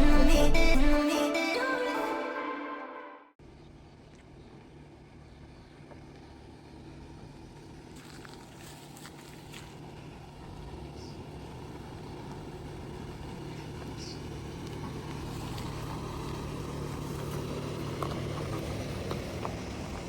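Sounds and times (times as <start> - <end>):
low engine hum: 0.0 - 1.0, 3.4 - 20.0.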